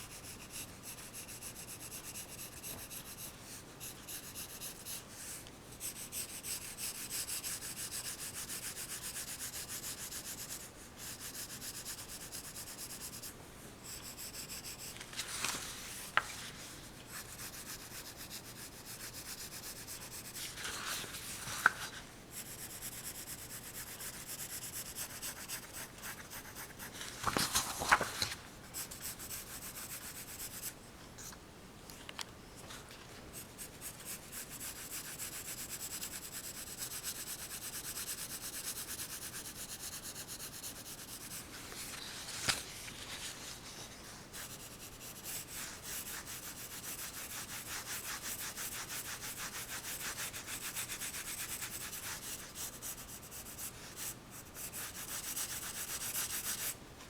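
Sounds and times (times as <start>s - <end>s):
pencil scratching on paper: 0.0s - 15.0s, 17.0s - 27.1s, 28.7s - 30.8s, 33.3s - 42.0s, 43.8s - 56.8s.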